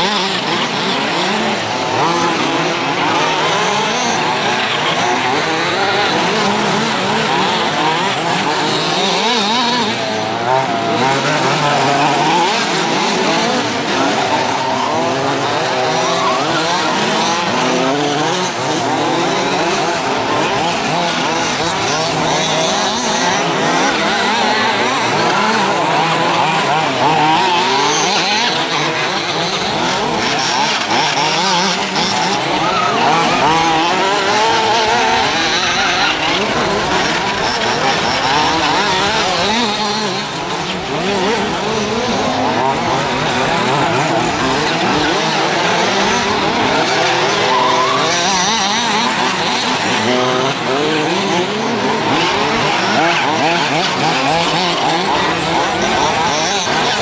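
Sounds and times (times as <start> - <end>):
small engines revving: 0.0 - 57.0.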